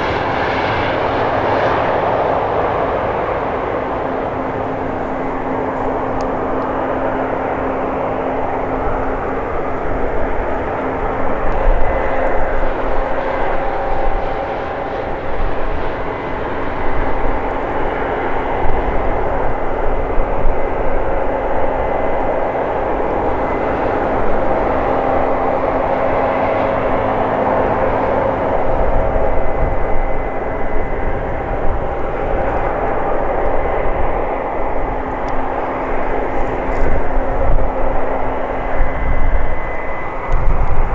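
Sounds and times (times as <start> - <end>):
combine harvester drone: 0.0 - 40.9.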